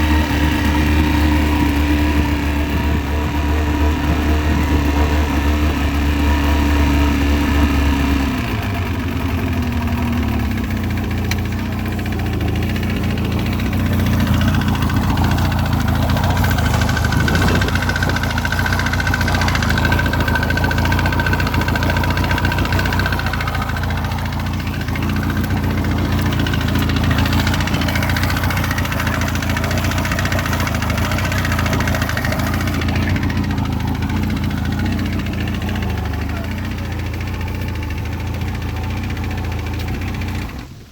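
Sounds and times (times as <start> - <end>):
engine knocking: 0.0 - 40.9
outboard motor running: 0.0 - 40.9.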